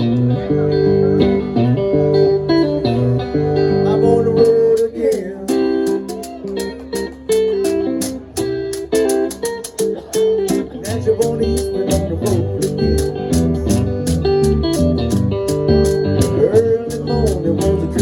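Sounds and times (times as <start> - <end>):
live band guitar instrumental: 0.0 - 18.0.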